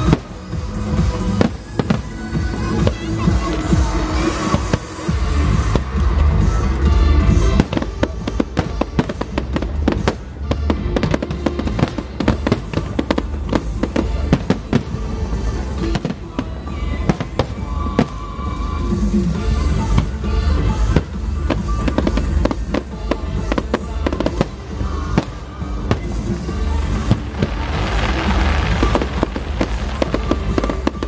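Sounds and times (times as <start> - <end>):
firework bangs and crackles: 0.0 - 31.0
music: 0.0 - 31.0
low rumble: 5.1 - 31.0.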